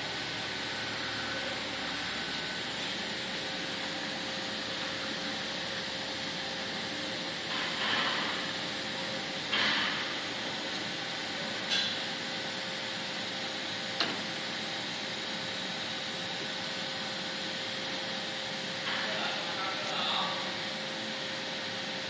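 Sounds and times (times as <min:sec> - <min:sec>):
factory machinery running: 0:00.0 - 0:22.0.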